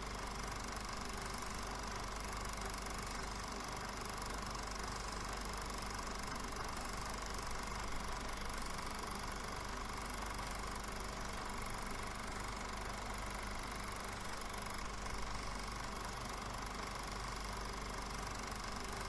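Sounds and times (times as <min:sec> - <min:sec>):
film projector whirring: 0:00.0 - 0:19.0.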